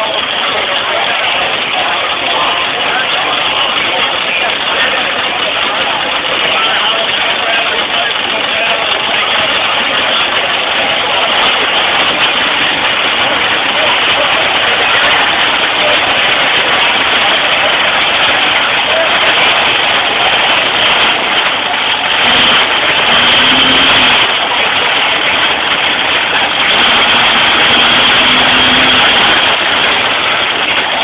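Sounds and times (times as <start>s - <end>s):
pickup engine running hard: 0.0s - 31.0s.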